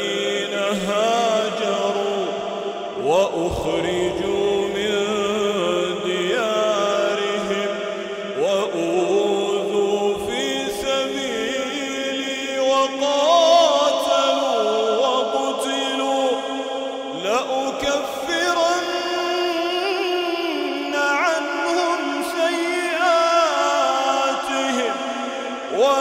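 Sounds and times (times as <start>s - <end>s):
man chanting melodically: 0.0s - 26.0s.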